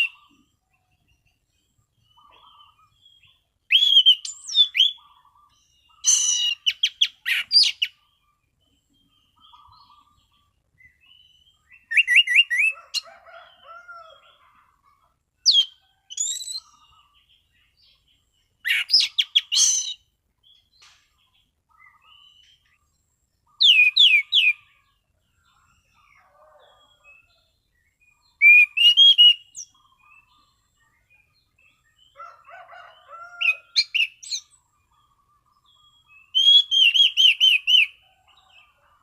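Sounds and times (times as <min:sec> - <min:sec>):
soft bird twittering: 0:00.0 - 0:39.0.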